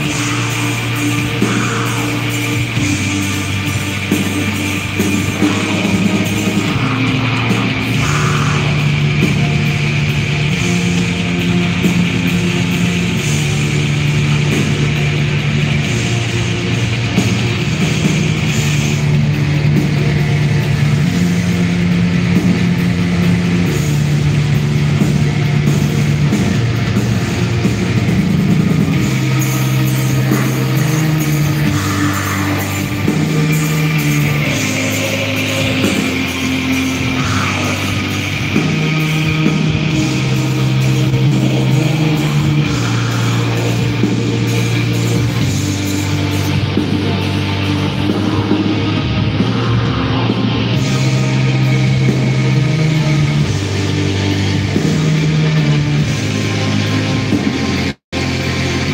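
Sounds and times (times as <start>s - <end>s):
black metal band playing live: 0.0s - 58.9s.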